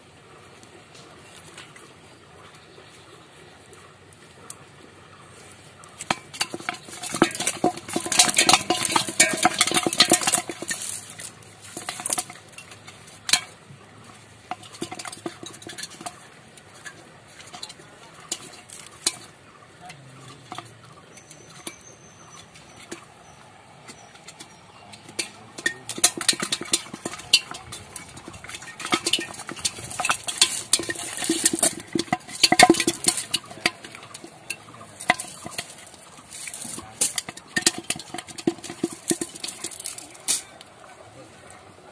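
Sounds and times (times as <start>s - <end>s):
fish flapping in metal pot: 5.8s - 40.8s.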